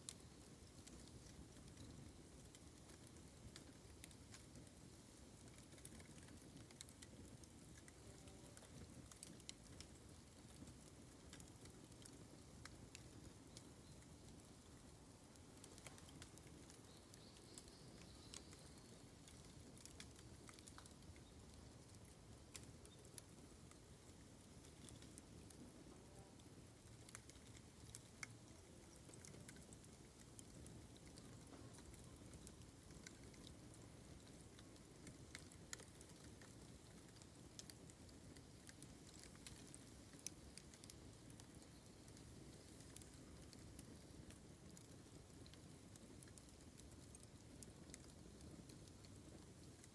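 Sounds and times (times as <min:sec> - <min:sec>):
bamboo fire crackling and popping: 0:00.0 - 0:49.9.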